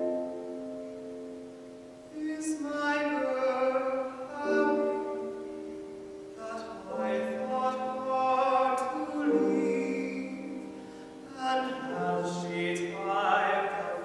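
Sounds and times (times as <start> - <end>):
piano accompaniment: 0.0 - 14.0
tenor singing classical song: 0.0 - 14.0.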